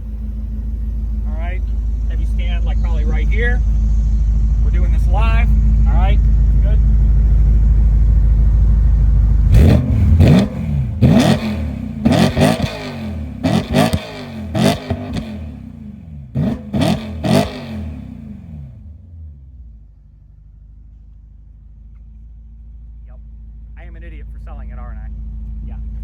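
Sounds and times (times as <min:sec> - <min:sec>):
car exhaust idling and revving: 0:00.0 - 0:26.0.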